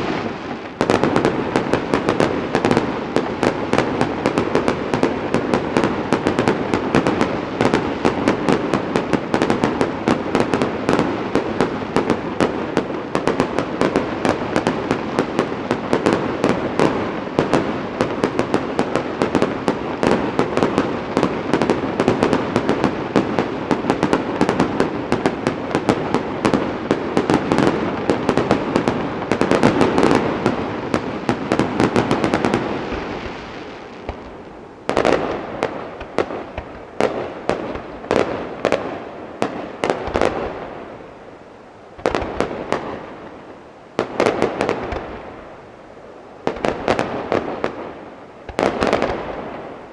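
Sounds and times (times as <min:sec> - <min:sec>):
fireworks bangs and crackling: 0:00.0 - 0:49.9.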